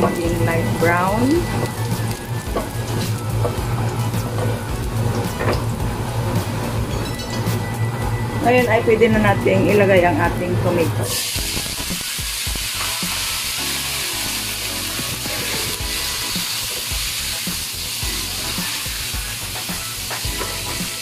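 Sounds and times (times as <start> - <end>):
tomatoes sizzling in oil: 0.0 - 7.7, 11.1 - 21.0.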